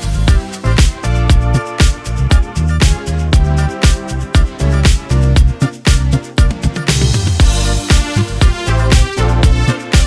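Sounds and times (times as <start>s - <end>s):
bass line: 0.0s - 10.0s
drum hits: 0.3s - 10.0s.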